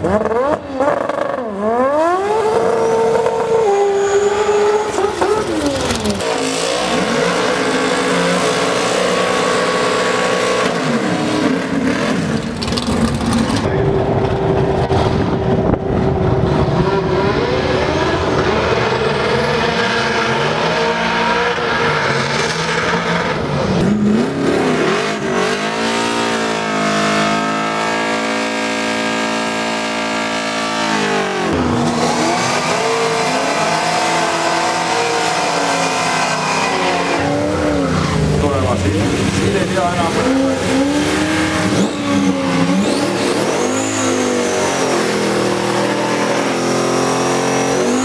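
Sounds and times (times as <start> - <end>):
engines revving hard: 0.0 - 48.0.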